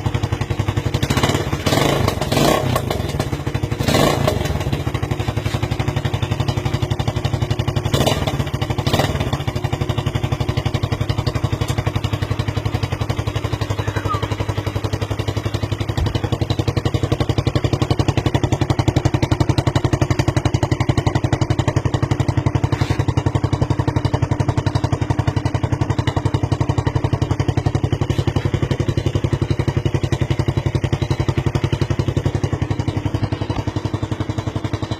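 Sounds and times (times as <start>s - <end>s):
motorcycle engine rattling exhaust: 0.0s - 34.9s.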